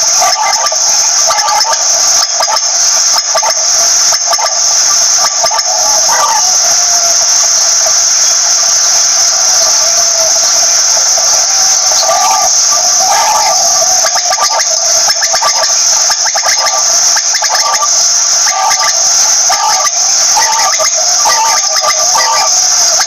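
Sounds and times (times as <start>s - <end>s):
quail calling: 0.0s - 7.4s, 9.5s - 23.0s
steady high hiss: 0.0s - 23.0s.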